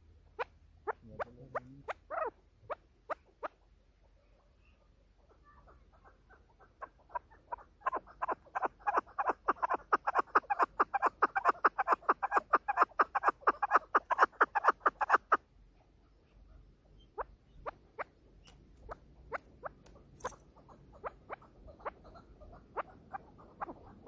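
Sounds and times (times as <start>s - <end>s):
partridge calling: 0.0s - 24.0s.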